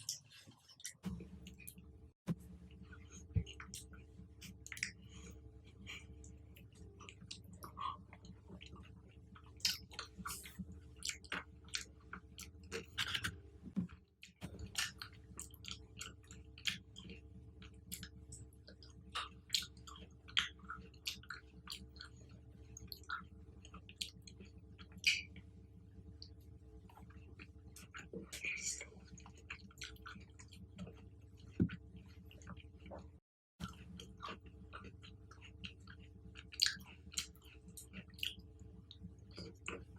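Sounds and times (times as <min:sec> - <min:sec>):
chewing fruit: 0:02.8 - 0:13.4, 0:14.2 - 0:39.9.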